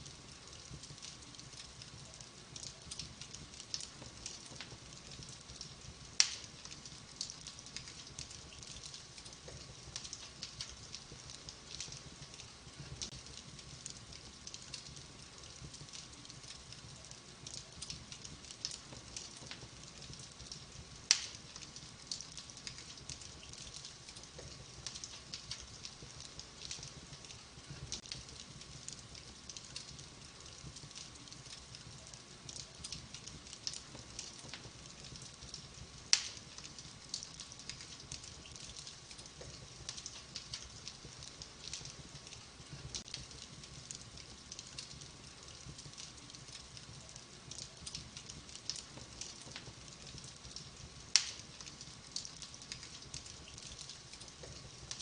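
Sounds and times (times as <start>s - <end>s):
wood fire crackling: 0.0s - 55.0s
sharp fire pops: 0.2s - 55.0s.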